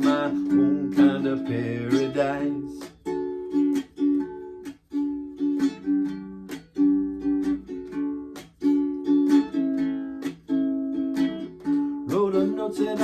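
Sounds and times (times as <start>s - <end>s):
ukulele strummed: 0.0s - 13.0s.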